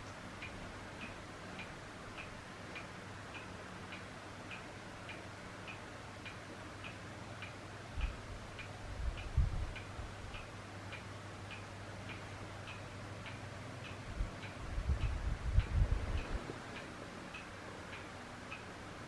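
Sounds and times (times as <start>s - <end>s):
electric fan humming: 0.0s - 19.0s
light ticking: 0.0s - 19.0s.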